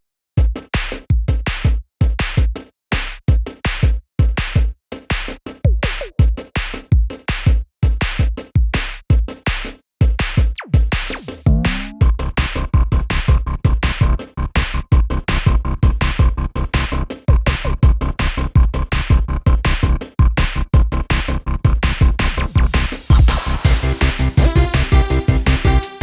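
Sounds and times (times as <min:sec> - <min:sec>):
electronic music with drum-machine beat: 0:00.4 - 0:26.0.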